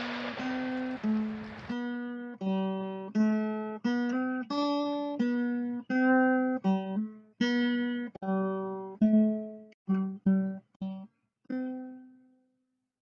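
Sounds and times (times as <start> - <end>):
acoustic guitar chords: 0.0 - 12.2.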